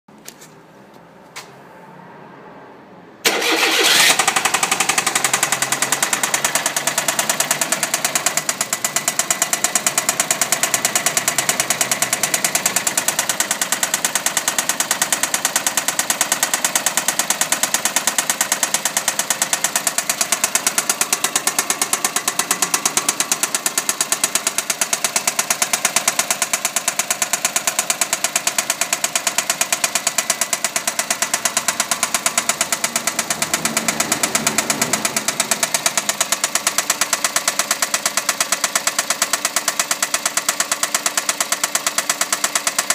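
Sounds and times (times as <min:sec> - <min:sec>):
car engine starting: 0:01.2 - 0:42.9
engine idling with knocking: 0:03.3 - 0:42.9.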